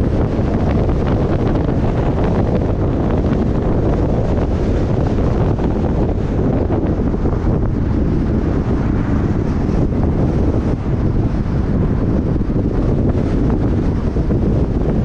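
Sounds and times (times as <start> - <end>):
car road noise: 0.0 - 15.0
wind rumble on microphone: 0.0 - 15.0.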